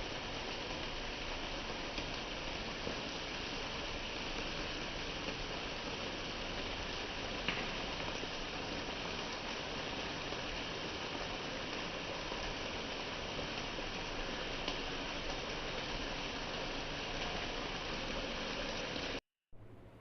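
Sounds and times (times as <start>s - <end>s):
food hissing in a pan: 0.0s - 20.0s.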